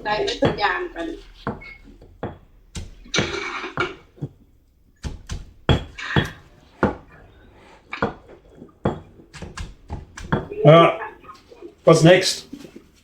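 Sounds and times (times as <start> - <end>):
pestle pounding in mortar: 0.0 - 11.3.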